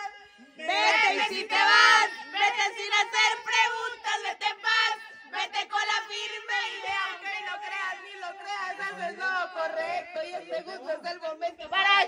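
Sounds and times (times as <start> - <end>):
people singing together: 0.0 - 12.0.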